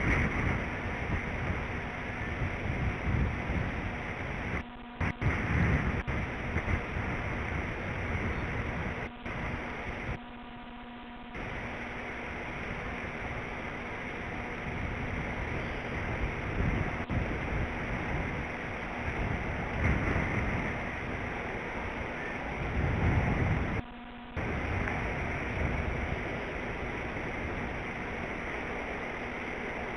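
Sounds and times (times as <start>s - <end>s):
wind buffeting microphone: 0.0s - 10.2s, 11.4s - 23.8s, 24.4s - 29.9s
faint electrical hum: 0.0s - 29.9s.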